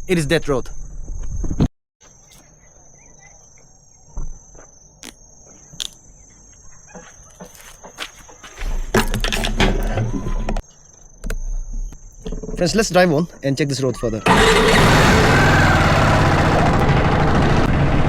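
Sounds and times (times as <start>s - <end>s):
insects trilling: 0.0s - 15.8s.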